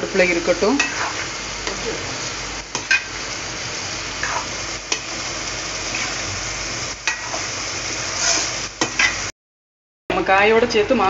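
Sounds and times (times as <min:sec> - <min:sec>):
vegetables sizzling in a pan: 0:00.0 - 0:09.3.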